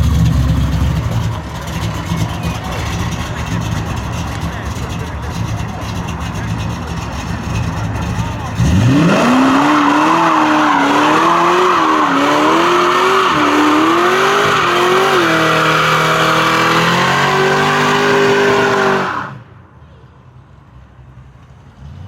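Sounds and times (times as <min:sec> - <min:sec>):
car engine revving high: 0:00.0 - 0:19.5.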